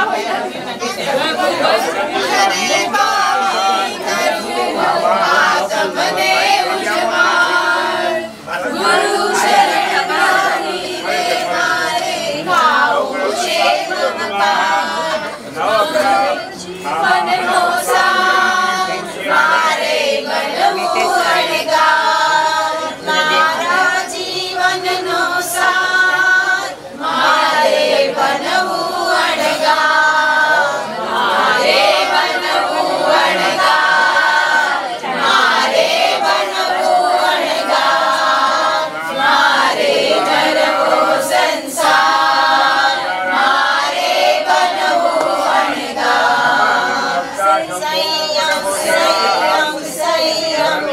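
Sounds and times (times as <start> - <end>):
group singing unaccompanied: 0.0 - 50.9.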